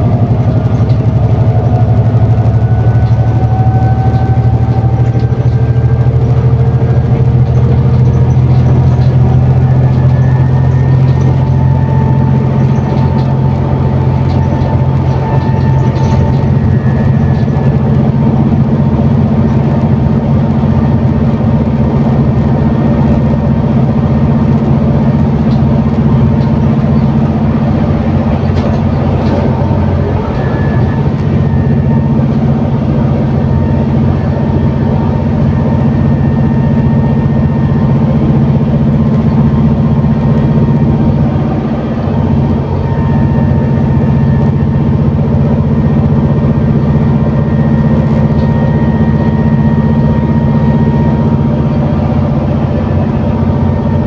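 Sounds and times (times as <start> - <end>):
bus diesel engine droning: 0.0 - 54.0
road noise: 0.0 - 54.0.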